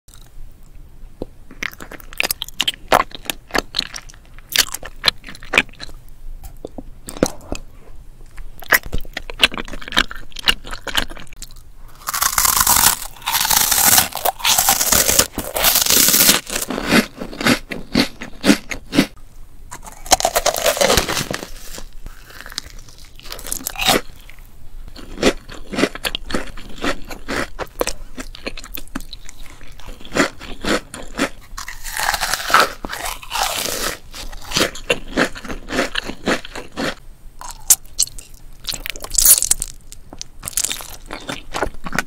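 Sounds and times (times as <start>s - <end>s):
loud crunching of snacks: 1.6s - 6.0s, 8.6s - 24.4s, 25.0s - 42.0s.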